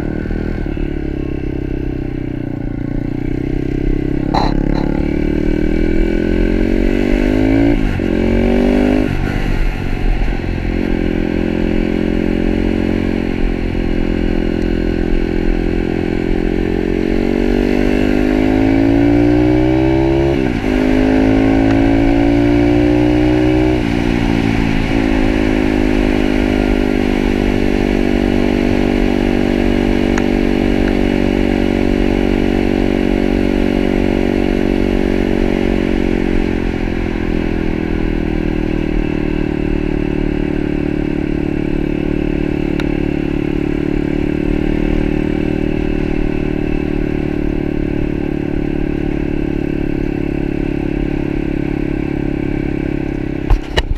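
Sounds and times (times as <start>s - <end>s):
pit bike engine accelerating: 0.0s - 53.9s.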